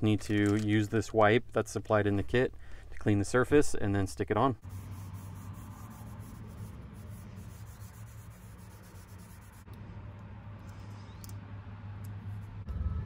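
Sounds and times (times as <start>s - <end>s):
steady low hum: 2.4s - 12.9s.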